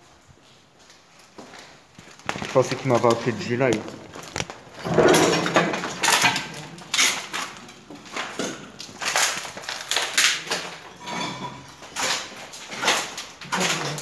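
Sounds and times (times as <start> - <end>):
footsteps crunching over debris: 0.0 - 14.0.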